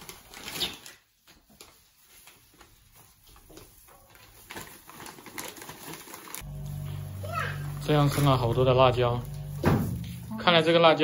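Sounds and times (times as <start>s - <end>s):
plastic bags rustling and crinkling: 0.0s - 10.4s.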